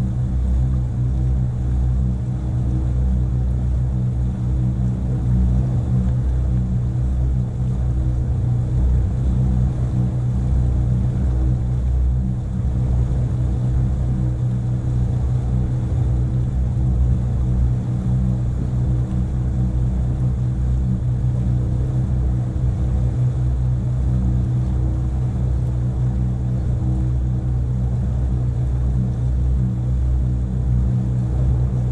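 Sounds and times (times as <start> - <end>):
boat engine droning: 0.0 - 31.9.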